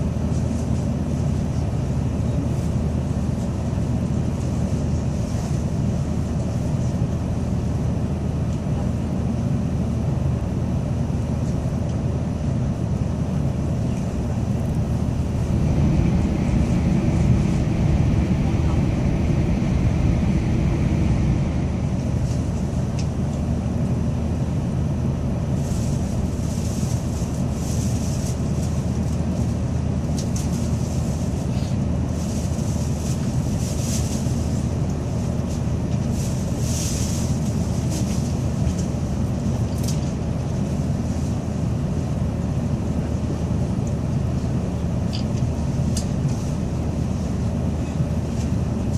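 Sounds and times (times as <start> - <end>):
train low rumble: 0.0 - 48.9.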